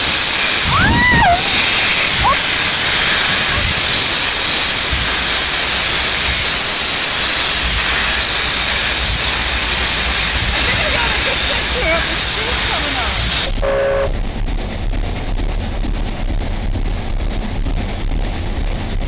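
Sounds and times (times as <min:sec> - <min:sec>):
steam locomotive venting steam: 0:00.0 - 0:19.0.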